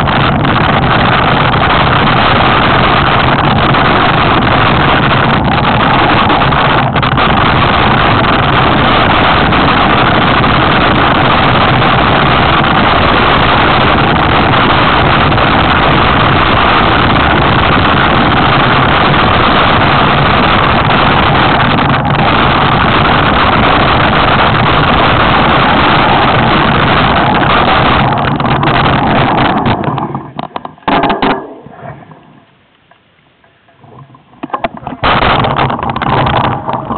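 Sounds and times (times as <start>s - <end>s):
mountain bike rumbling downhill: 0.0s - 32.6s, 33.4s - 36.9s
wind buffeting microphone: 0.0s - 32.6s, 33.7s - 36.9s.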